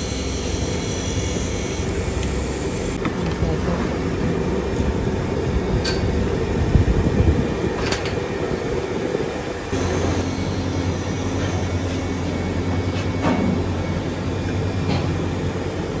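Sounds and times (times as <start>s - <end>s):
steady low hum: 0.0s - 16.0s
workshop machinery running: 0.0s - 16.0s.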